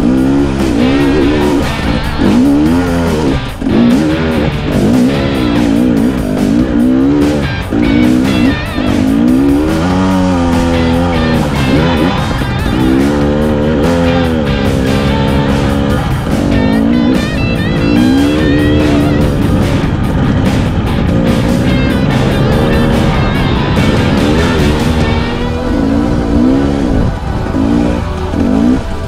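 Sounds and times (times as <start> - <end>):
dirt bike engine revving: 0.0 - 29.0
rock music with electric guitar: 0.0 - 29.0.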